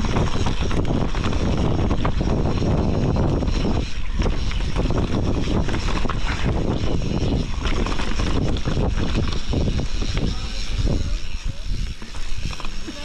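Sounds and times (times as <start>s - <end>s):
bike knocking and rattling: 0.0s - 13.0s
wind rushing over microphone: 0.0s - 13.0s.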